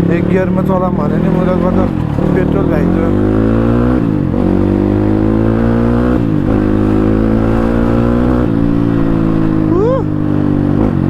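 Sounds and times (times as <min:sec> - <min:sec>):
loud motorcycle exhaust accelerating: 0:00.0 - 0:11.0.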